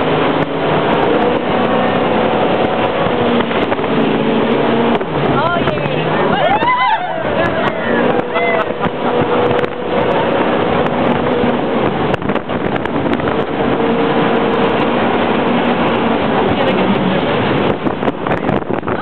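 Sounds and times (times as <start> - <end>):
boat engine drone: 0.0 - 19.0
water and wind rushing: 0.0 - 19.0.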